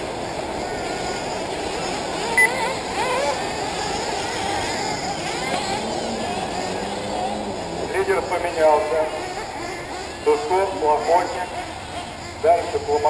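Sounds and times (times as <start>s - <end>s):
rc car engines racing: 0.0s - 13.0s.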